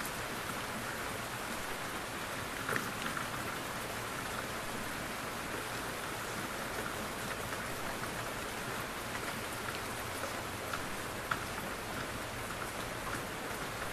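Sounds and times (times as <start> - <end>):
soft rain falling: 0.0 - 13.9.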